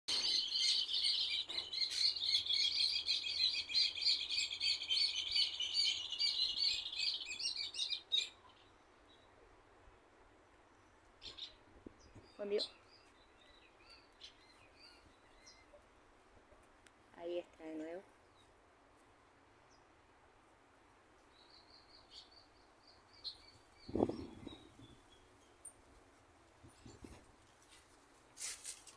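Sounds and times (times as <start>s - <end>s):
small birds chirping: 0.1s - 20.1s, 21.1s - 27.8s.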